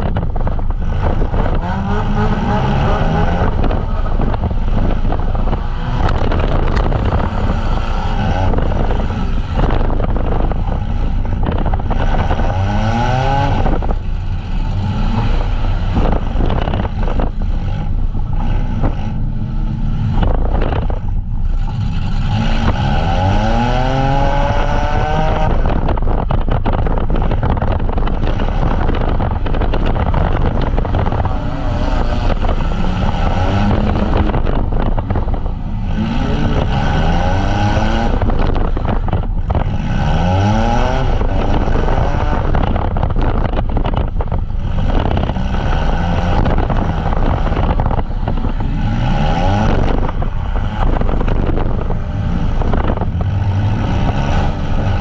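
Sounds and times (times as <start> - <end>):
engines revving: 0.0 - 55.0.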